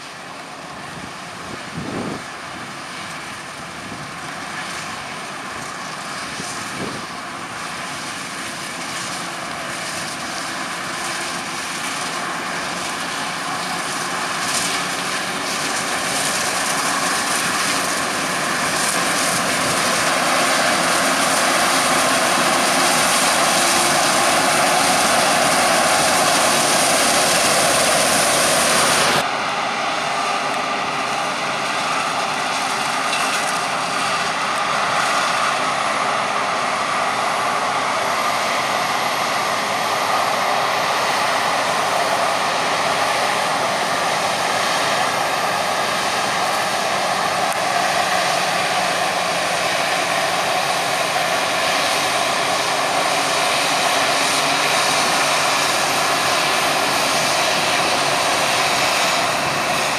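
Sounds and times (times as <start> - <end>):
harvester engine drone with whine: 0.0 - 59.9
tractor running: 0.0 - 59.9.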